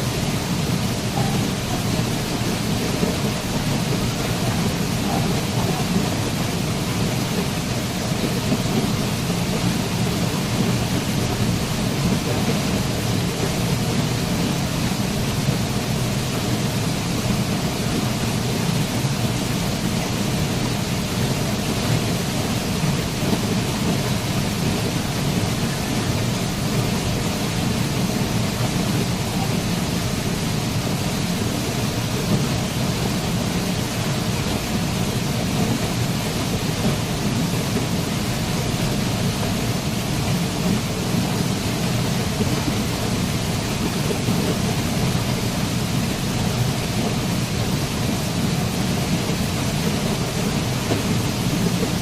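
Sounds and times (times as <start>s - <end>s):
waterfall roaring: 0.0s - 52.0s.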